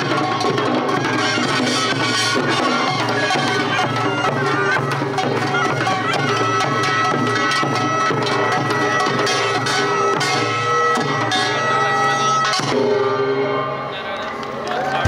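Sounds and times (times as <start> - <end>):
drums and small gongs: 0.0 - 15.0
shawm piercing melody: 0.0 - 15.0.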